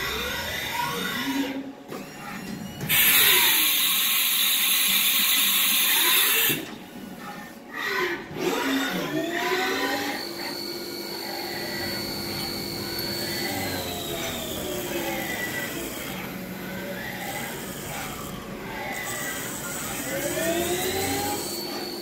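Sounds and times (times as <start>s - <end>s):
machine motor whine: 0.0s - 22.0s.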